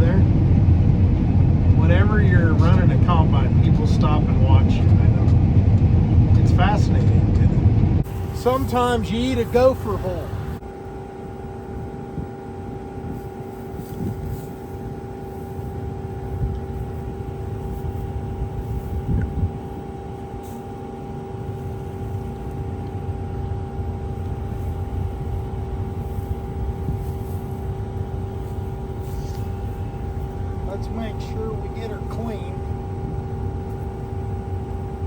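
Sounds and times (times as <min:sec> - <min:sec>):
combine harvester rumbling: 0:00.0 - 0:35.0
machine whine: 0:00.0 - 0:35.0.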